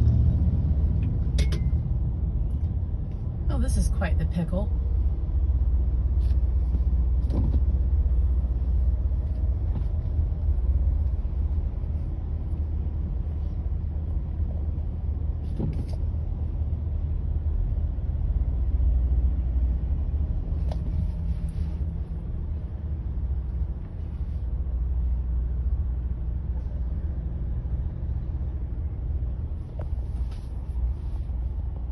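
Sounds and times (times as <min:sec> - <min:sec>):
road noise: 0:00.0 - 0:31.9
vehicle engine rumble: 0:00.0 - 0:31.9.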